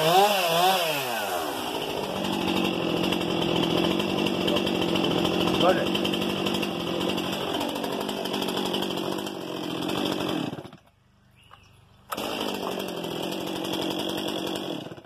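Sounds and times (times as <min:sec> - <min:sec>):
chainsaw engine running: 0:00.0 - 0:10.9, 0:12.1 - 0:15.0.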